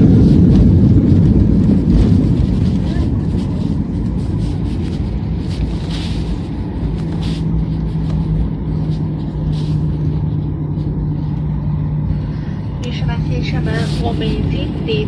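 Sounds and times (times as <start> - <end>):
constant cabin hum: 0.0 - 15.0
jet engine rumble: 0.0 - 15.0.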